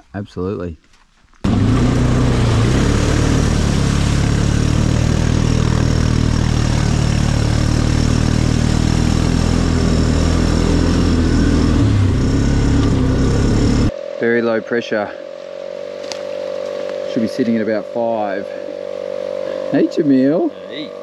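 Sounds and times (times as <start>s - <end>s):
quad bike engine idling: 1.5s - 13.9s, 16.0s - 21.0s.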